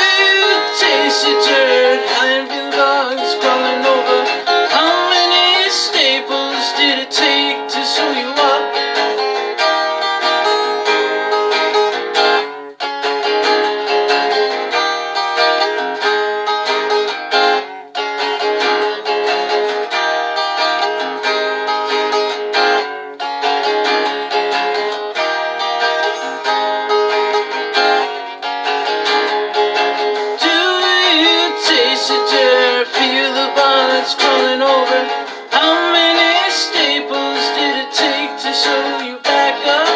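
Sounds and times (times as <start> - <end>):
guitar strumming and plucking: 0.0 - 39.9.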